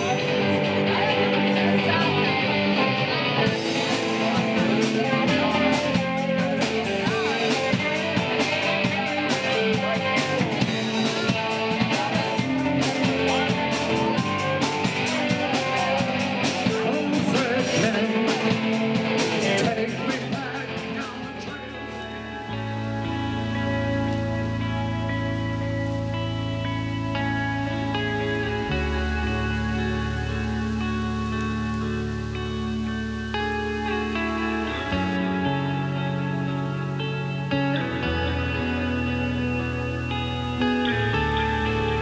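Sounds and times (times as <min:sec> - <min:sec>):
rock music with singing: 0:00.0 - 0:42.0.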